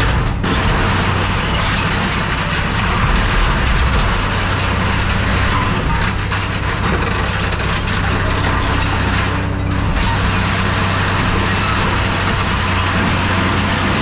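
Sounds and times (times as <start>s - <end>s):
heavy machine engine running: 0.0s - 14.0s.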